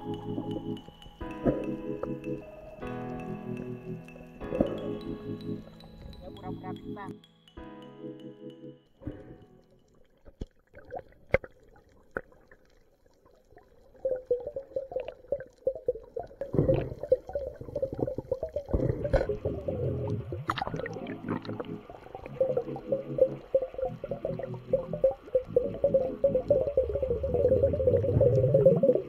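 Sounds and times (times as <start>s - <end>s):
underwater churn and gurgling: 0.0s - 6.2s, 9.1s - 29.0s
sharp clicks underwater: 0.0s - 6.9s, 9.0s - 29.0s.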